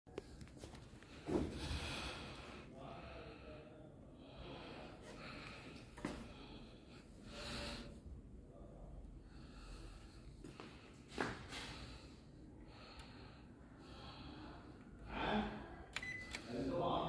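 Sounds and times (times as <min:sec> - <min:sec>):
faint breathing: 0:00.1 - 0:17.0.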